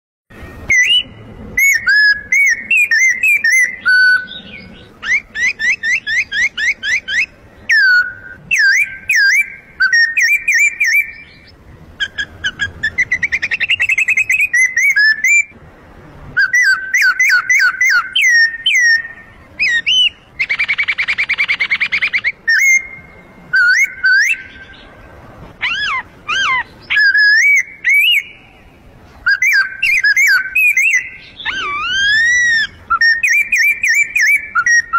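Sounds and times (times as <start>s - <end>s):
bird call mimicry: 0.4s - 15.6s, 16.4s - 34.9s.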